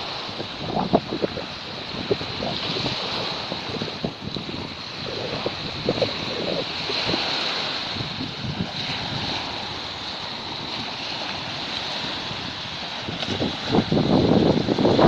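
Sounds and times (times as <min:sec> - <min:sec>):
waves breaking on sand: 0:00.0 - 0:15.0
wind rumbling on microphone: 0:00.0 - 0:15.0.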